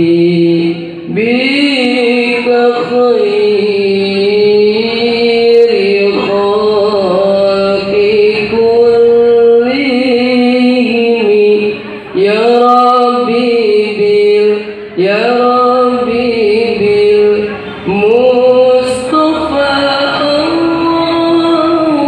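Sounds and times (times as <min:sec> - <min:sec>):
man chanting through a microphone: 0:00.0 - 0:22.0.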